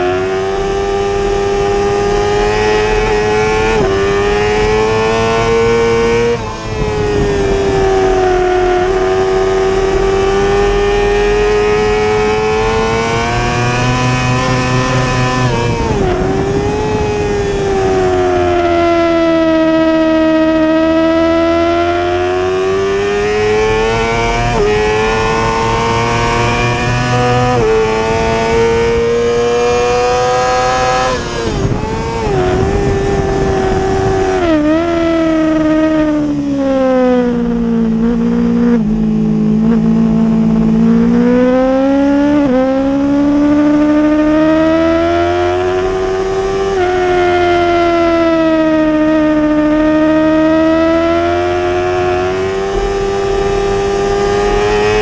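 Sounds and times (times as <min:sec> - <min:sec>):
motorcycle engine at high revs: 0:00.0 - 0:55.0.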